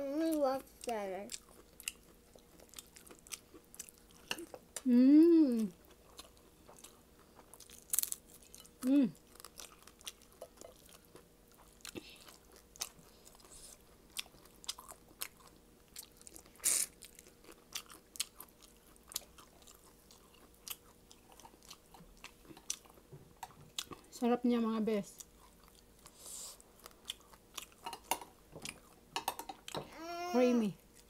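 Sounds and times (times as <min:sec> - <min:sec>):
chewing and crunching shrimp: 0:00.3 - 0:04.9, 0:05.6 - 0:24.1, 0:25.1 - 0:29.8, 0:30.8 - 0:31.0.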